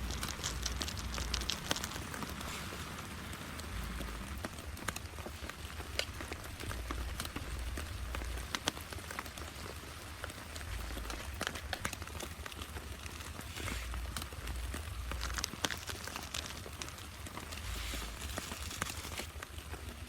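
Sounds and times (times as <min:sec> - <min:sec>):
low rumble: 0:00.0 - 0:16.4
heavy rain falling: 0:00.0 - 0:20.0.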